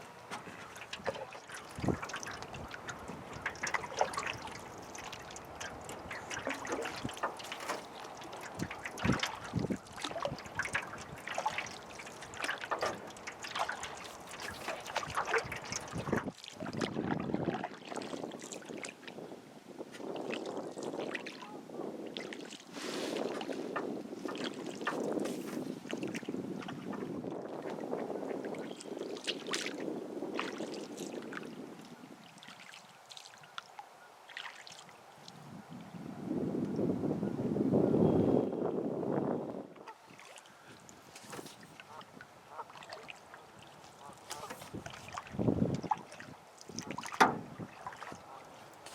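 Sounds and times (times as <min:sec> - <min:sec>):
paddle splashing water: 0:00.0 - 0:35.6, 0:39.0 - 0:48.9.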